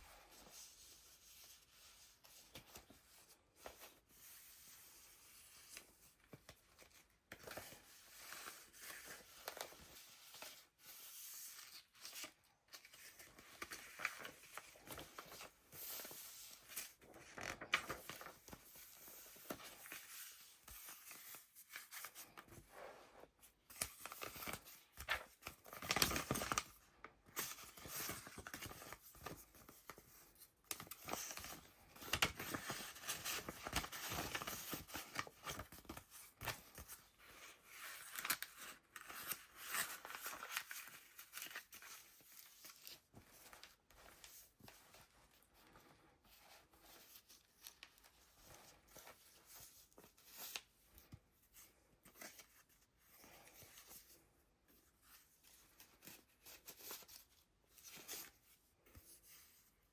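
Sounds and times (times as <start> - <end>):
paper pages rustling: 0.5 - 54.2.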